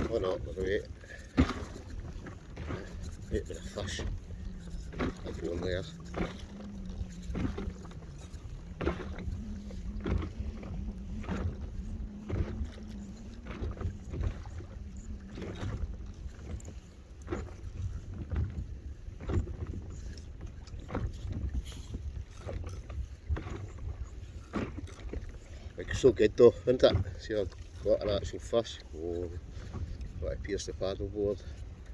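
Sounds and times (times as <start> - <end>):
water splashing: 0.0 - 31.6
wind on microphone: 0.0 - 31.9.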